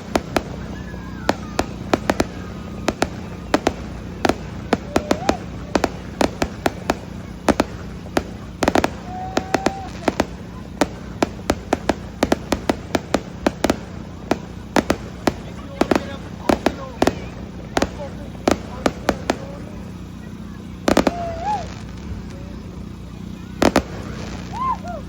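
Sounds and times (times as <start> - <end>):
fireworks bangs and pops: 0.0 - 25.0.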